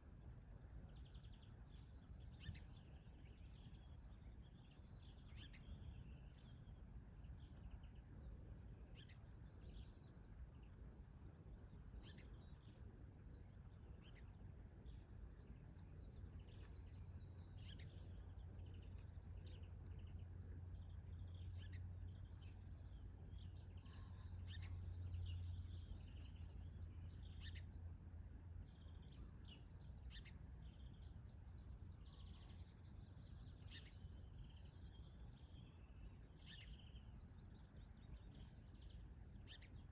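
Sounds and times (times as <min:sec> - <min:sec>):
faint low rumble: 0:00.0 - 0:39.9
small birds chirping and singing: 0:00.0 - 0:39.9.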